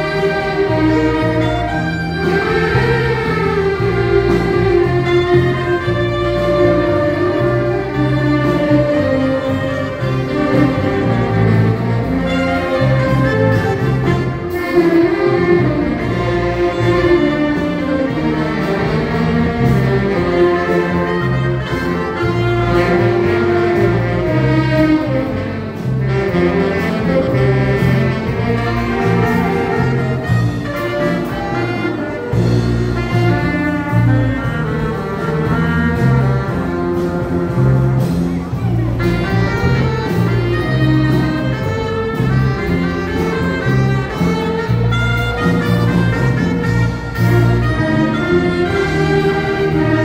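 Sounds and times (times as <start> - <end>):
instrumental band music: 0.0 - 50.0.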